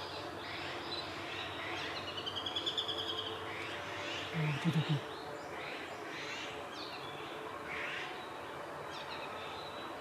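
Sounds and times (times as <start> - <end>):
woodland background noise: 0.0 - 10.0.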